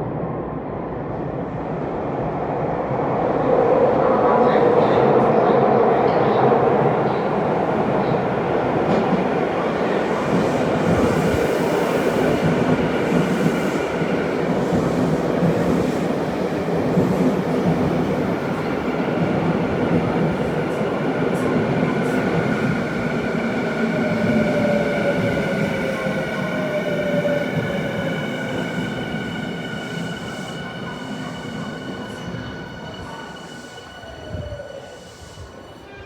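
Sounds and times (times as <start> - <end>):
train wheels rumbling on rail: 4.6 - 35.7.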